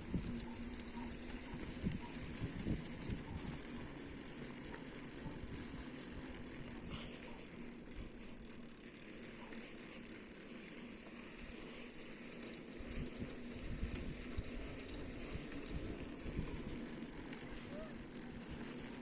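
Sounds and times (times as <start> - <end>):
bicycle rattling on rough road: 0.0 - 19.0.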